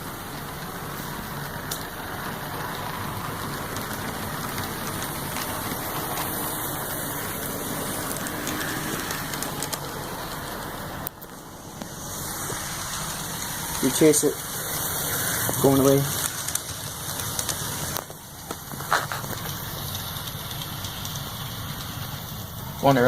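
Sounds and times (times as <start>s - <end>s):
model train rolling whir: 0.0s - 23.0s.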